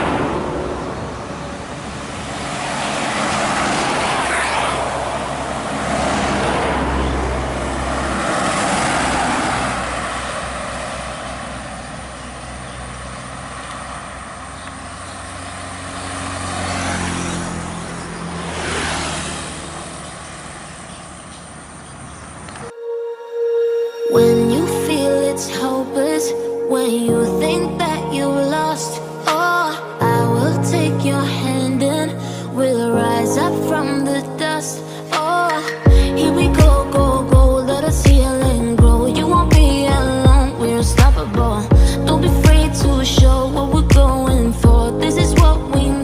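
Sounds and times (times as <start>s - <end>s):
vehicles passing close by: 0.0s - 22.7s, 24.3s - 46.0s.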